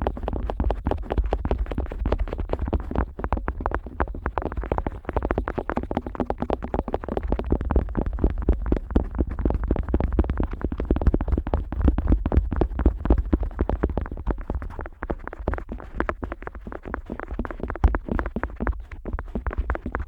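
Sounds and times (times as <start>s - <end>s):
scratching against microphone: 0.0s - 20.0s.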